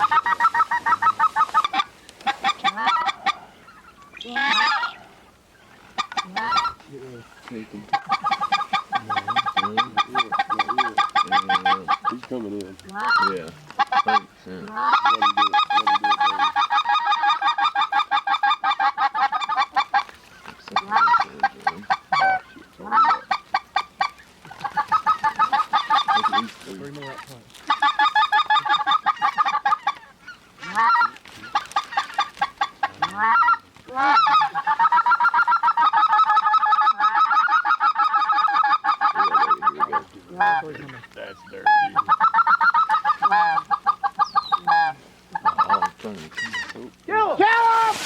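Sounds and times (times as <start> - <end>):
goose honking and clucking: 0.0 - 48.0.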